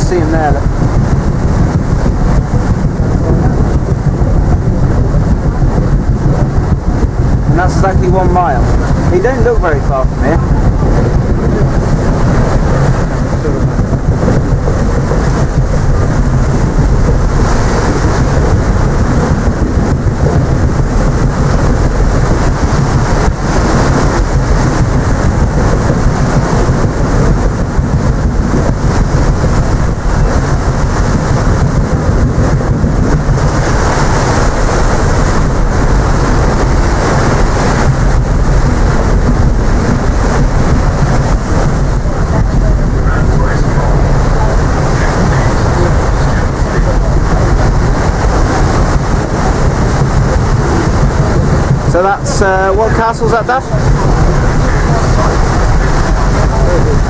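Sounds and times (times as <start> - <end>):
ship running noise: 0.0 - 57.0
wind rumble on microphone: 0.0 - 57.0.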